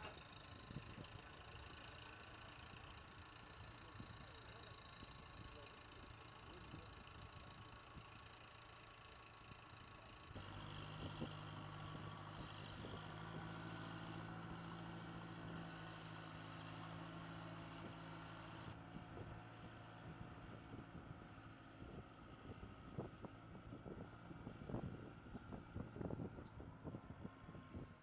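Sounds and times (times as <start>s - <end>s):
tow tractor engine humming: 0.0s - 28.0s.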